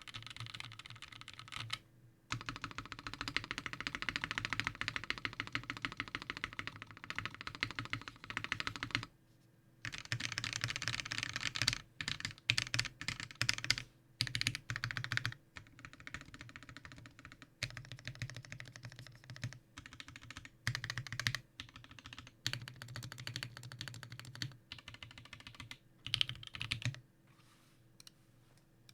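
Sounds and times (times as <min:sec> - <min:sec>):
mechanical keyboard typing: 0:00.0 - 0:09.1, 0:09.9 - 0:27.0.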